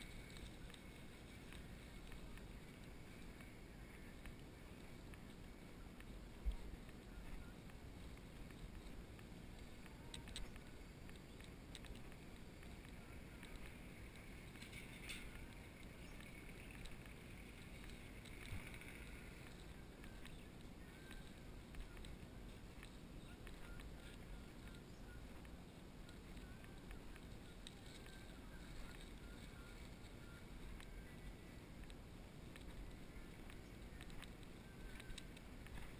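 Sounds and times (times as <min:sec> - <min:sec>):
faint clicks: 0:00.0 - 0:35.9
wind rumble on camera: 0:00.0 - 0:35.9.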